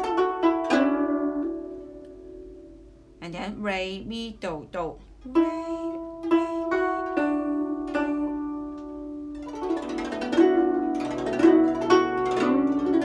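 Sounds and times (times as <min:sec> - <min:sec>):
plucked zither notes: 0:00.0 - 0:03.5, 0:05.0 - 0:13.0.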